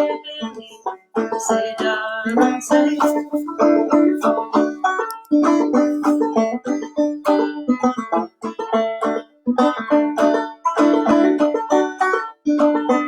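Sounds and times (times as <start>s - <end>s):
banjo plucking: 0.0s - 13.0s.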